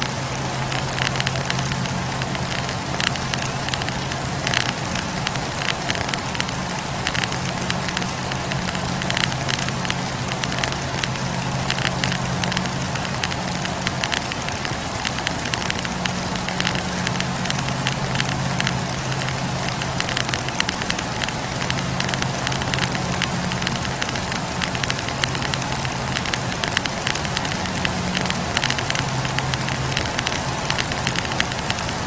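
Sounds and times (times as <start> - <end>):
campfire crackling and popping: 0.0 - 32.0
low hum: 0.0 - 32.0.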